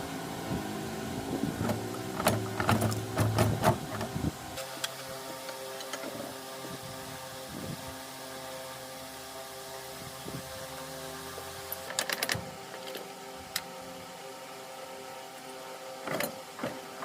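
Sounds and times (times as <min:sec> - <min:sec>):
mechanical motor hum: 0:00.0 - 0:17.0.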